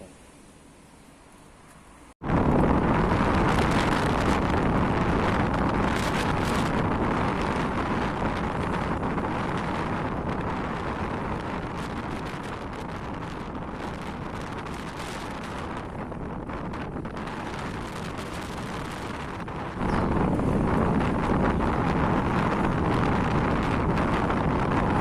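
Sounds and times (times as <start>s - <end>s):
steady rushing noise: 2.0s - 25.0s
wind buffeting microphone: 2.2s - 25.0s.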